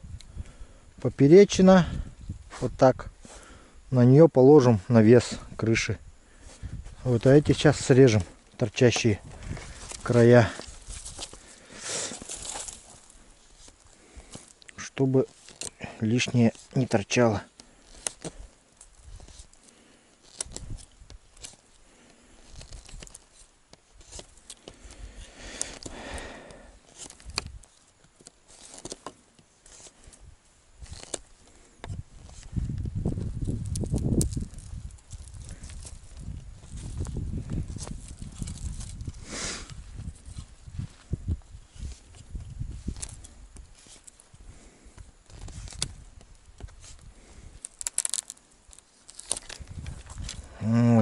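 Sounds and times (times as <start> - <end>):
branches rustling: 4.3 - 51.0
twigs snapping: 7.1 - 30.2, 30.8 - 41.1, 41.7 - 50.5.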